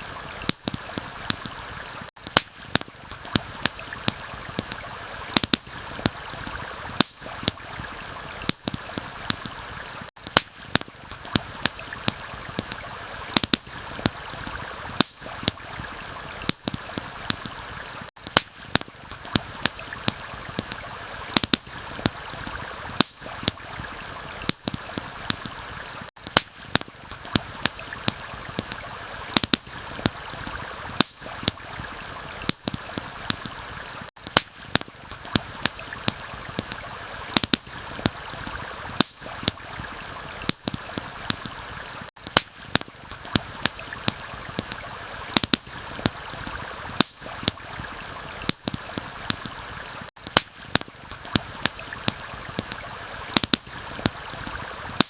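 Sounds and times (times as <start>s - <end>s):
campfire crackling and popping: 0.0s - 55.0s
stream rushing: 0.0s - 55.0s.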